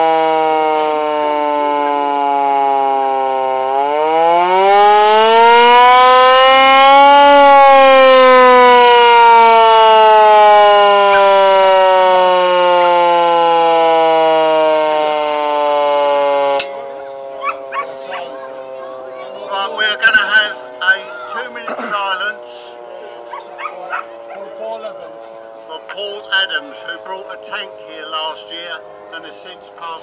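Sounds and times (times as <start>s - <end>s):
hand-cranked siren wailing: 0.0s - 30.0s.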